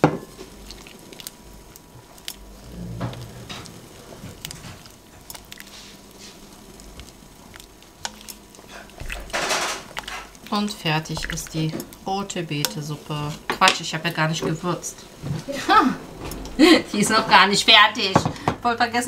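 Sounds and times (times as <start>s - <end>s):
spoon stirring thick soup: 0.0s - 15.5s.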